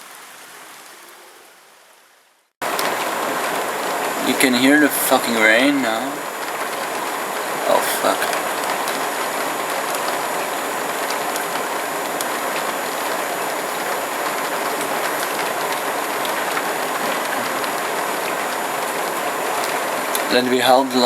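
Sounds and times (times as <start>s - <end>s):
heavy rain hissing: 0.0s - 21.0s
raindrops ticking: 2.6s - 21.0s.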